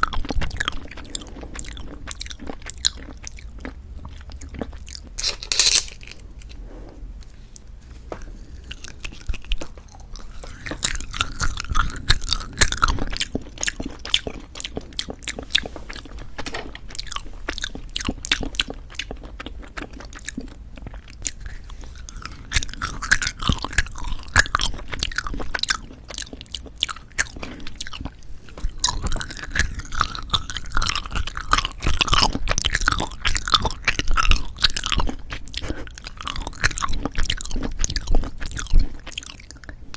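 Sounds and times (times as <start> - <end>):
chewing jelly candies: 0.0 - 6.6, 7.2 - 39.9.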